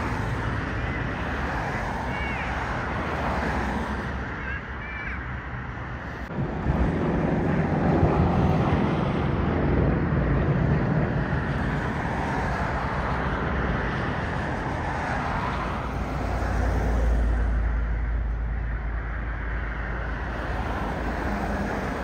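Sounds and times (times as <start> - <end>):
propeller aircraft engine drone: 3.9 - 22.0.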